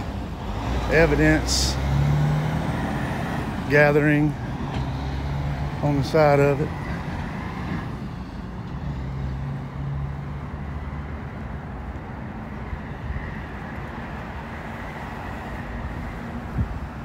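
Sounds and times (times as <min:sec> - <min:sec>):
traffic rumble: 0:00.0 - 0:17.0
vehicle engine drone: 0:00.0 - 0:17.0.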